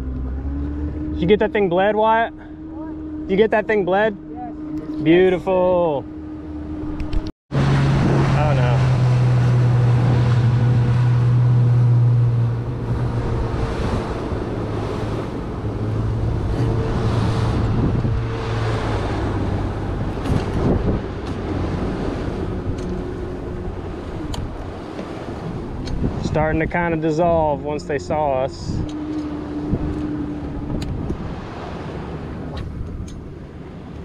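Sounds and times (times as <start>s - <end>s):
motorboat engine running: 0.0s - 34.0s
water rushing past hull: 0.0s - 34.0s
wind buffeting microphone: 6.0s - 34.0s.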